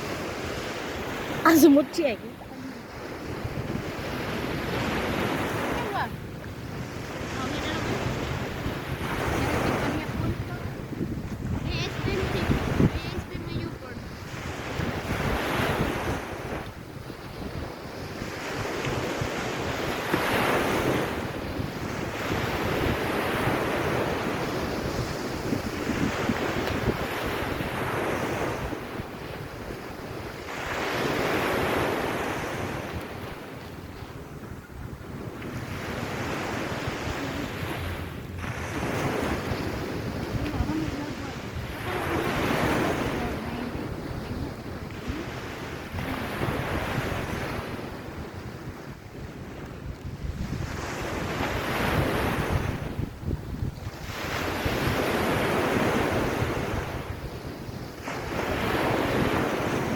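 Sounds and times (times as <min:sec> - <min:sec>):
surf washing on sandy beach: 0:00.0 - 0:59.9
wind buffeting microphone: 0:00.0 - 0:59.9.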